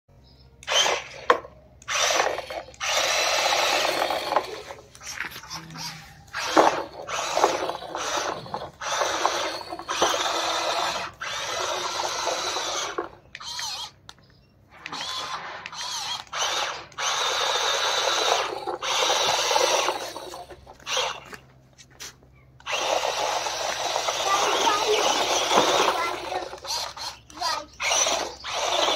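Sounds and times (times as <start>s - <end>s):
toy car electric motor whining: 0.6s - 14.1s, 14.7s - 21.4s, 22.6s - 28.9s.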